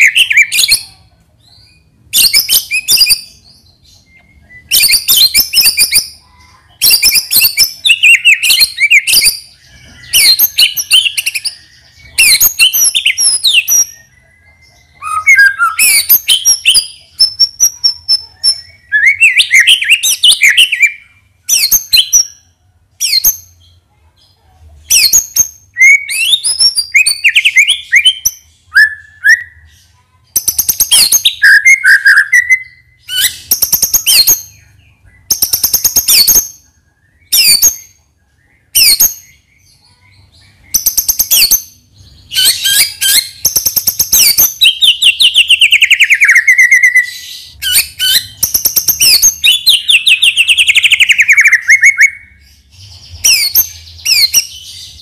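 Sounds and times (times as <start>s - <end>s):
songbird singing varied phrases: 0.0s - 55.0s.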